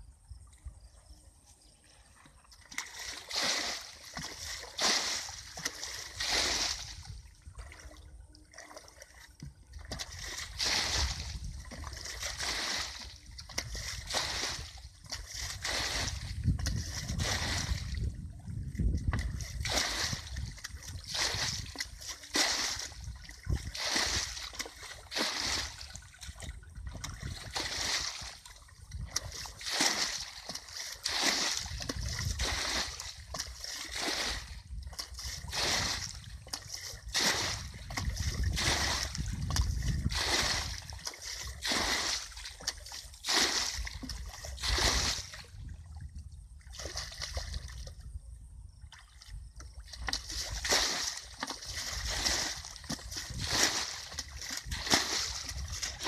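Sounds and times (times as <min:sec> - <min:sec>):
bucket scooping and pouring water: 0:01.6 - 0:48.0, 0:48.9 - 0:56.0.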